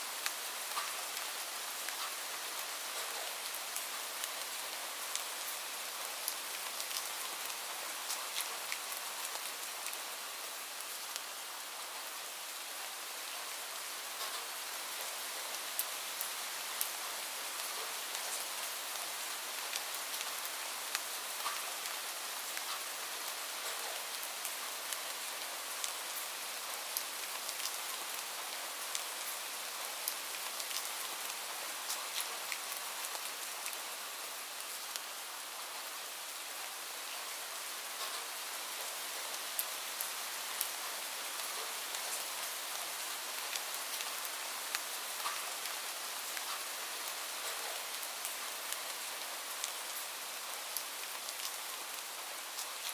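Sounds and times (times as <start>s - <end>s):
light rain falling: 0.0s - 52.9s
raindrops ticking on a surface: 0.1s - 12.6s, 13.7s - 52.9s.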